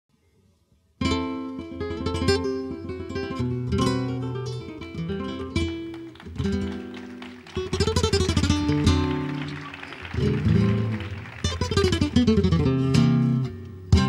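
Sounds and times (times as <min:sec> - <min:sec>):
flamenco guitar playing: 0:01.0 - 0:14.0.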